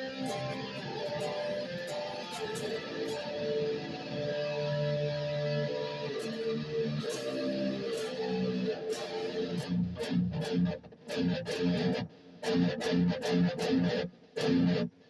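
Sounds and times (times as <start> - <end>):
electric guitar riff through amp: 0.0 - 15.0.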